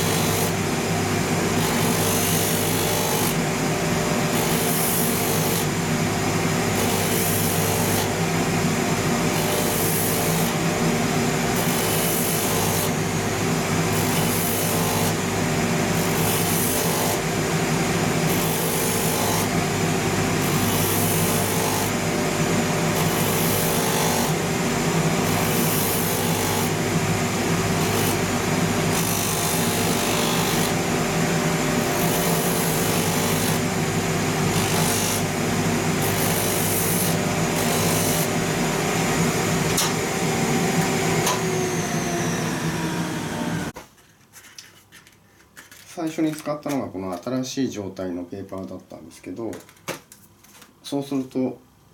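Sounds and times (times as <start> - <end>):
machine motor humming: 0.0 - 43.8.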